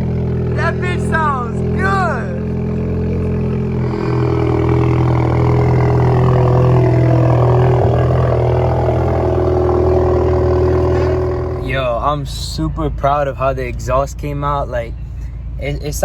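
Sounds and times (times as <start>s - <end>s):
car engine droning through exhaust: 0.0s - 16.0s.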